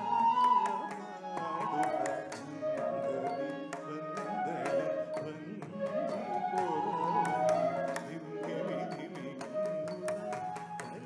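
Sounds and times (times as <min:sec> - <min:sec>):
bamboo flute melody: 0:00.0 - 0:11.0.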